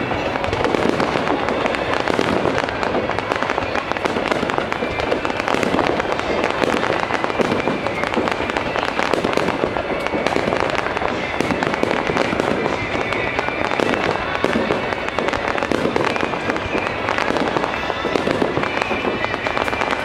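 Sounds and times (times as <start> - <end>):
fireworks crackling pops: 0.0 - 20.0.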